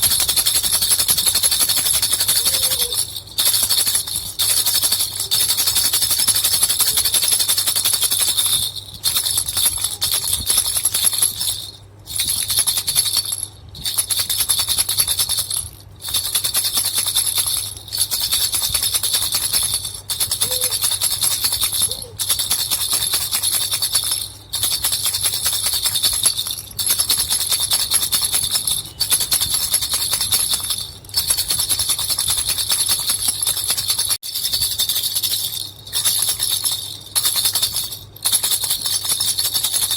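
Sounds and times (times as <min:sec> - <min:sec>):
baby rattle bells jingling: 0:00.0 - 0:39.9.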